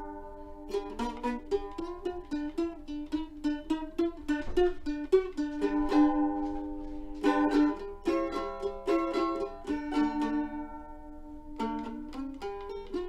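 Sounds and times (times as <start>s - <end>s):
plucked string instrument melody: 0.0s - 13.0s.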